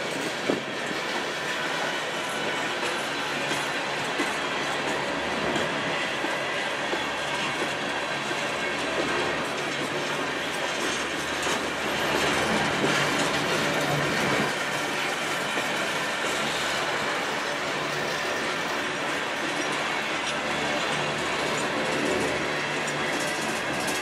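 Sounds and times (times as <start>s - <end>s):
freight train wheels rolling on rails: 0.0s - 24.0s.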